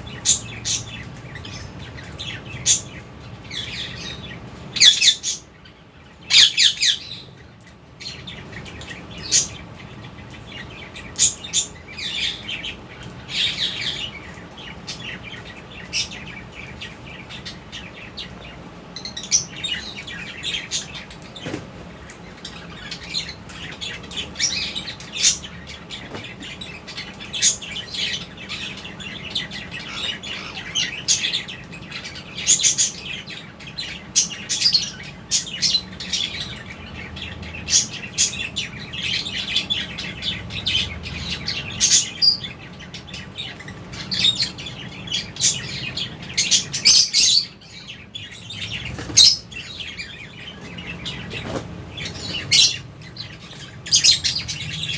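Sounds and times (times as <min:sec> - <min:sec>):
birds chirping and chattering: 0:00.0 - 0:54.9.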